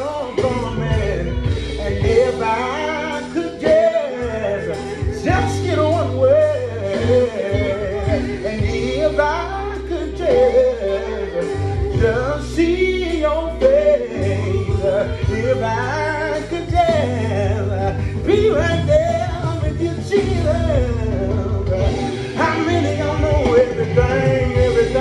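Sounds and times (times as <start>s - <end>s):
man singing gospel: 0.0s - 25.0s.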